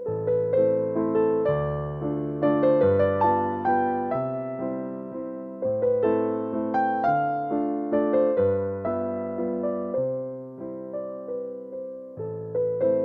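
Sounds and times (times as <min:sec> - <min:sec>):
piano waltz: 0:00.0 - 0:13.0.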